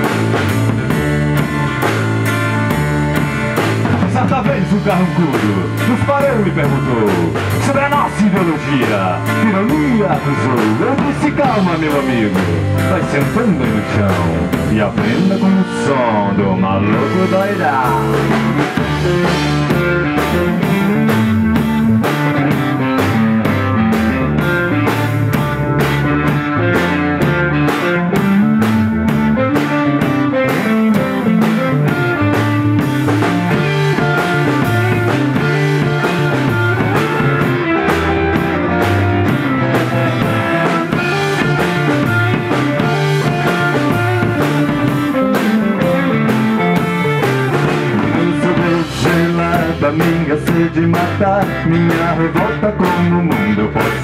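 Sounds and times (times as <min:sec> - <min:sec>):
bass and drums: 0:00.0 - 0:54.0
electric guitar: 0:00.0 - 0:54.0.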